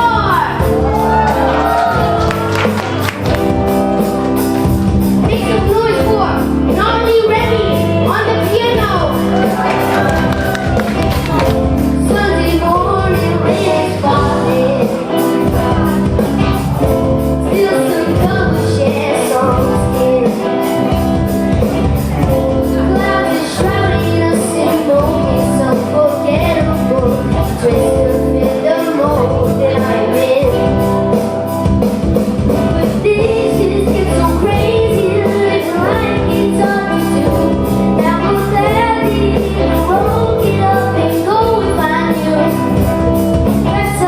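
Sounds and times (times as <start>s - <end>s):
live rock band playing: 0.0s - 44.0s
person singing: 5.2s - 21.6s, 22.2s - 31.2s, 32.5s - 44.0s.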